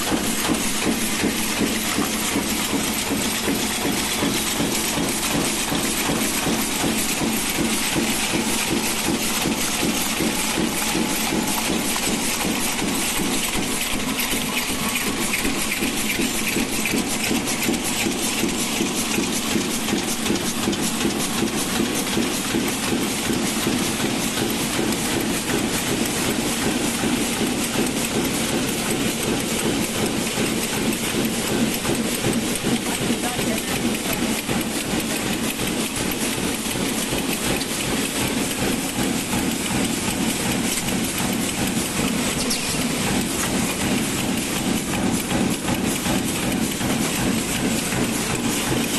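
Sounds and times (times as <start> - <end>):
machinery clattering: 0.0 - 48.9.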